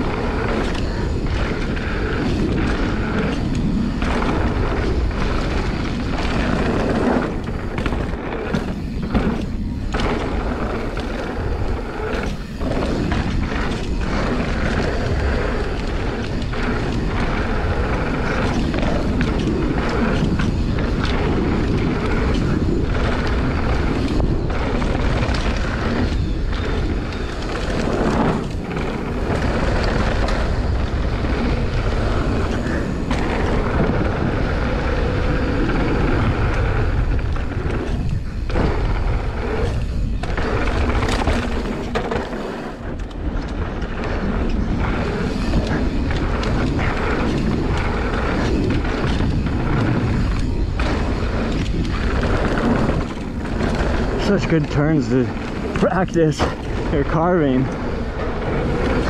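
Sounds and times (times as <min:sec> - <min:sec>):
bike tyres rolling on dirt: 0:00.0 - 0:59.0
wind buffeting microphone: 0:00.0 - 0:59.0.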